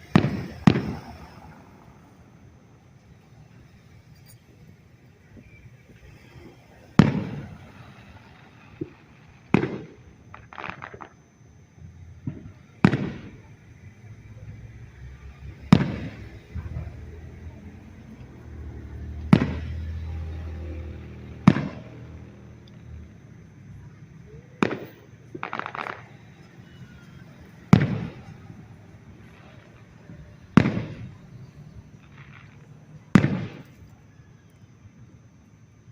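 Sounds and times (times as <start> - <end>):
firework shells booming: 0.0 - 2.5, 3.5 - 13.9, 15.3 - 23.2, 24.2 - 34.6
firework crackle: 0.0 - 35.9.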